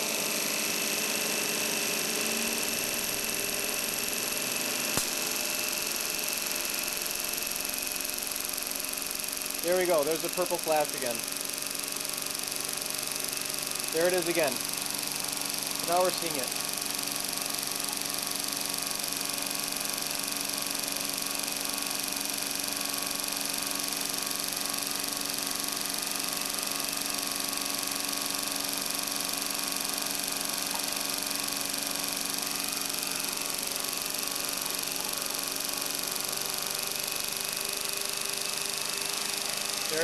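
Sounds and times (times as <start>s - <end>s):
rotary generator whirring hum: 0.0s - 40.0s.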